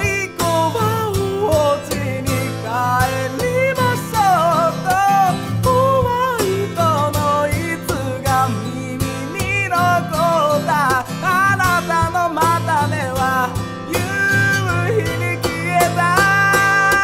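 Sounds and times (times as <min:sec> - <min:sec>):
acoustic guitar slam-strumming: 0:00.0 - 0:17.0
person singing: 0:00.0 - 0:17.0.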